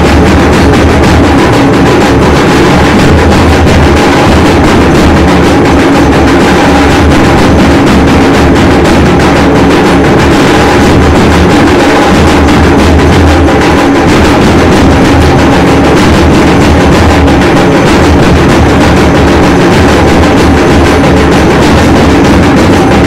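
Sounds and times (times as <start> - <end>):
fast drumming and percussion: 0.0 - 23.0.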